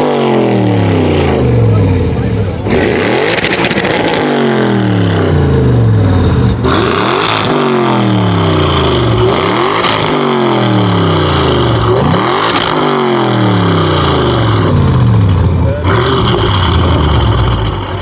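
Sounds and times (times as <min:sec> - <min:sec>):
loud car engine revving: 0:00.0 - 0:18.0
exhaust cracks: 0:00.8 - 0:18.0.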